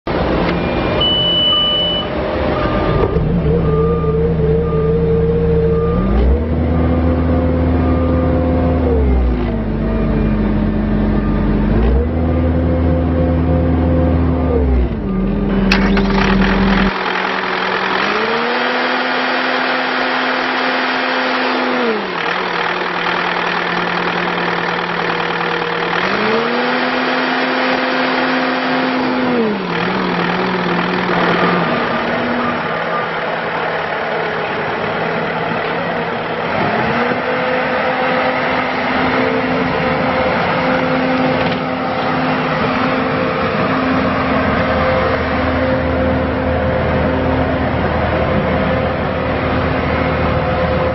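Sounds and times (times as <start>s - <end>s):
diesel engine revving: 0.1s - 50.9s.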